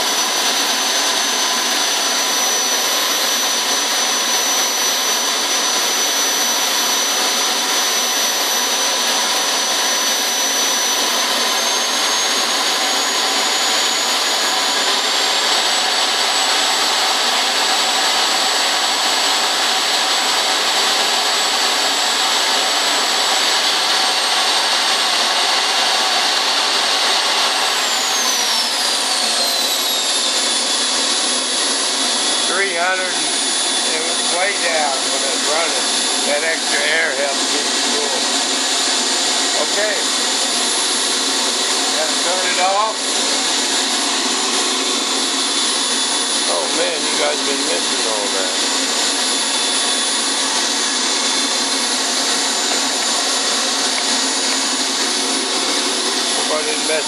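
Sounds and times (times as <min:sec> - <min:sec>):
model jet turbine whining: 0:00.0 - 0:57.0.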